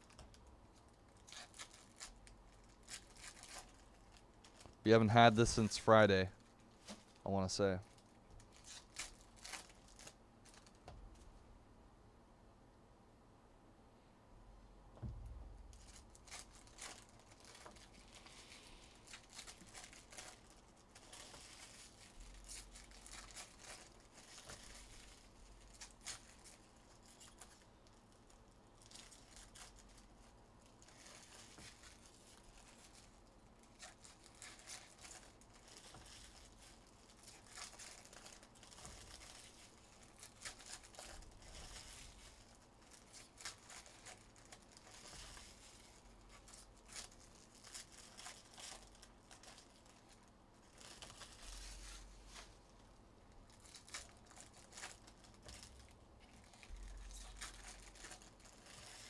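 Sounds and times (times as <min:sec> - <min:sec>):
wrapper tearing and crinkling: 0:00.0 - 0:05.6, 0:07.9 - 0:10.8, 0:15.7 - 0:52.6, 0:53.5 - 0:59.0.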